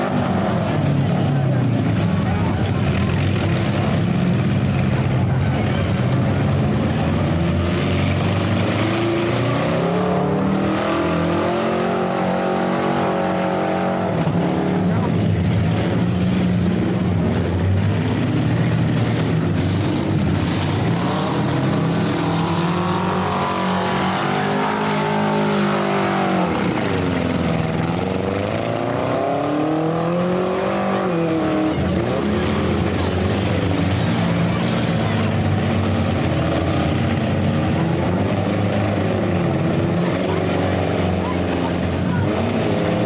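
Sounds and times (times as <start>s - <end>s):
car engine droning: 0.0s - 43.0s
car engines revving: 0.0s - 43.0s.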